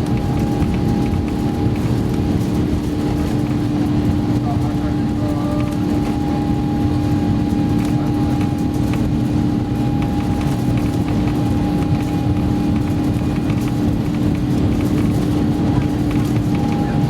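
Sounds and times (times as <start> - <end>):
airplane cabin engine rumble: 0.0 - 17.0
steady humming tones: 0.0 - 17.0.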